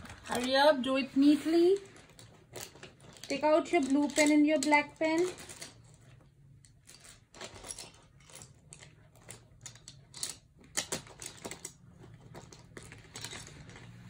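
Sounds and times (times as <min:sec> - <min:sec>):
pens and paper clicking: 0:00.0 - 0:00.9, 0:01.6 - 0:14.0.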